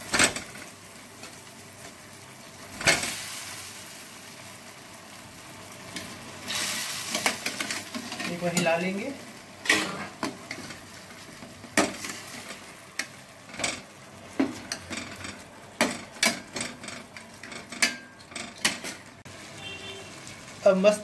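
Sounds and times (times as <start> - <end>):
gravy simmering sizzle: 0.0 - 21.0.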